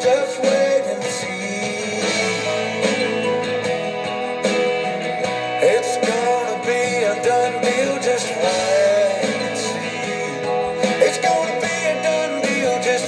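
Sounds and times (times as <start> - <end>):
country music with guitar: 0.0 - 13.0.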